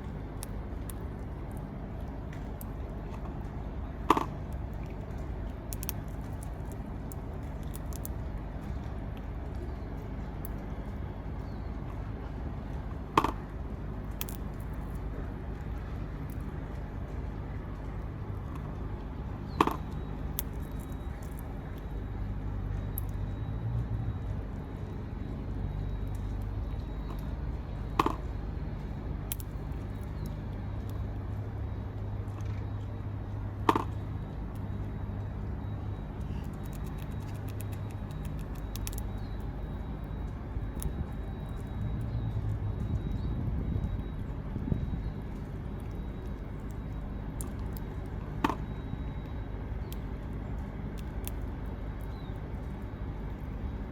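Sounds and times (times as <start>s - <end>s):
distant traffic rumble: 0.0s - 53.9s.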